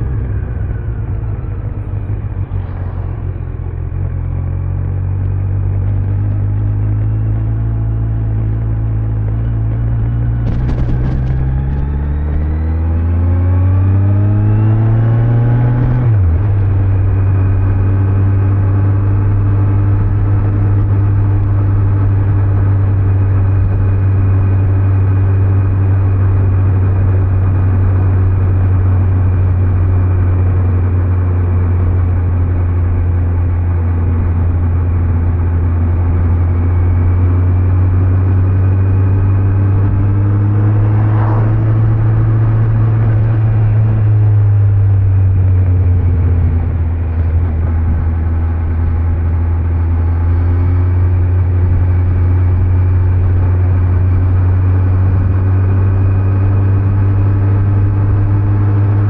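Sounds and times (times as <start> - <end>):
motorcycle engine running: 0.0 - 59.0
tyre and road noise: 0.0 - 59.0.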